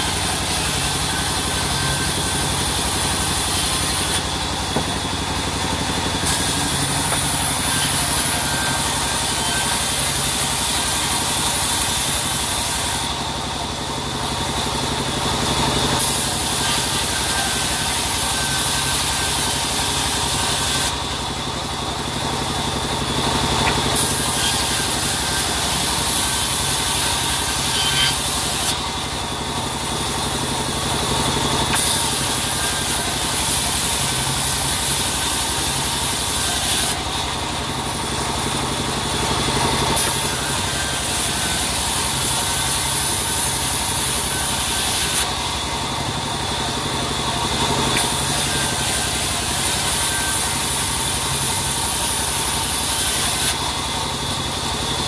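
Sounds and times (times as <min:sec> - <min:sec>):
saw blade hissing through wood: 0:00.0 - 0:13.2, 0:16.0 - 0:21.1, 0:22.8 - 0:38.2, 0:39.0 - 0:45.7, 0:47.8 - 0:53.6
band saw hum: 0:00.0 - 0:55.0.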